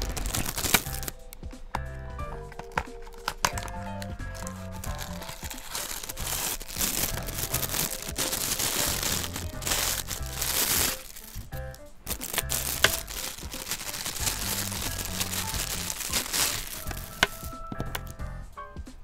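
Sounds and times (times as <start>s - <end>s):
plastic packaging crinkling: 0.0s - 1.3s, 2.5s - 18.2s
background music: 0.0s - 19.0s.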